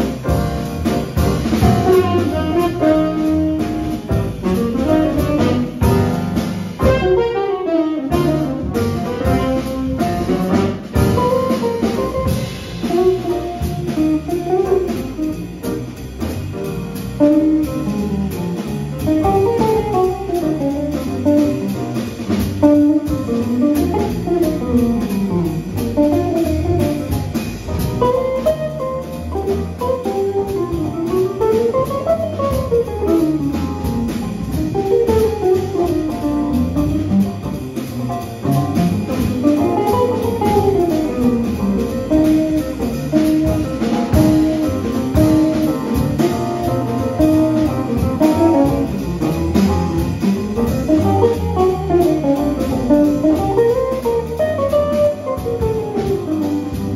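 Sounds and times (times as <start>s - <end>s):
drum kit: 0.0s - 56.9s
upright bass: 0.0s - 56.9s.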